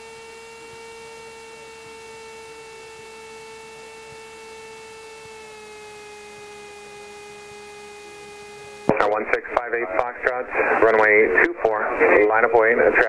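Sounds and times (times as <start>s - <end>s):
electrical whine on radio audio: 0.0s - 13.0s.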